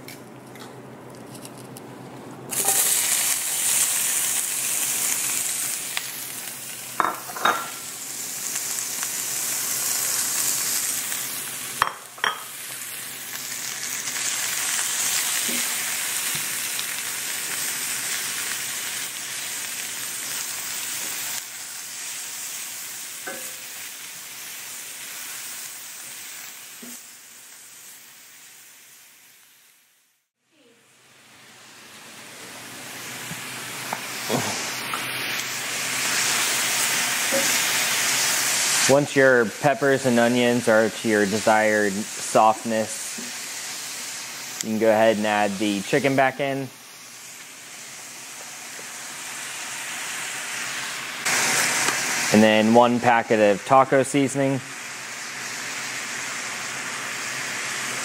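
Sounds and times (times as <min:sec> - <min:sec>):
vegetables sizzling in oil: 0:02.5 - 0:58.0.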